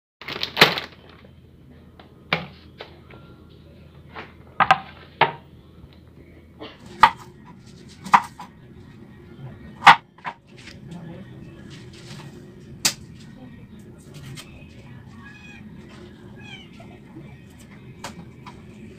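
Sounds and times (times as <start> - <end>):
faint low hum: 0.4 - 18.9.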